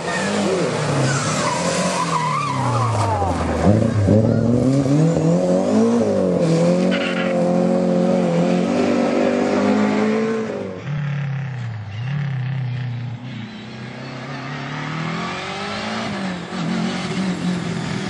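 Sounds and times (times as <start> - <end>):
rally car engine at full throttle: 0.0 - 18.0
second rally car engine: 0.0 - 18.0.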